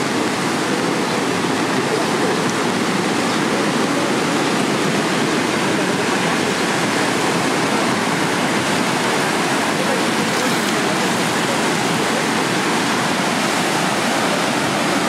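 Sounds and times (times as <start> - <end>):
river torrent rushing: 0.0 - 15.0.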